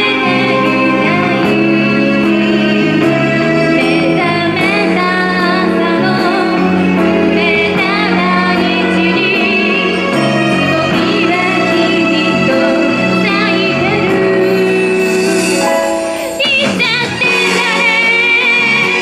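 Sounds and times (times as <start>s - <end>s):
woman singing pop song: 0.0s - 3.0s, 3.8s - 19.0s
instrumental accompaniment: 0.0s - 19.0s.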